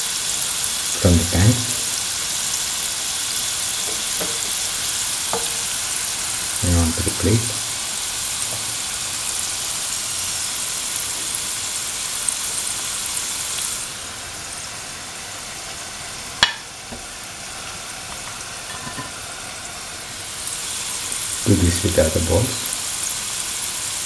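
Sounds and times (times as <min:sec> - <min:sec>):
dumplings sizzling in hot oil: 0:00.0 - 0:24.0.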